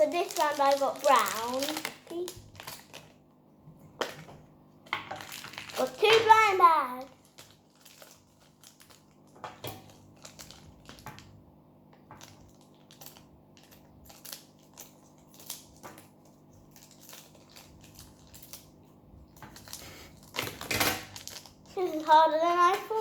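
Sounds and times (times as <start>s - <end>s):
plastic packaging crinkling: 0.0s - 3.2s, 4.9s - 11.4s, 12.0s - 23.0s.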